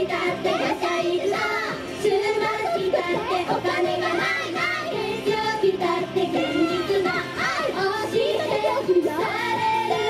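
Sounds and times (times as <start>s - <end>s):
girls singing pop song: 0.0s - 10.0s
recorded backing track: 0.0s - 10.0s.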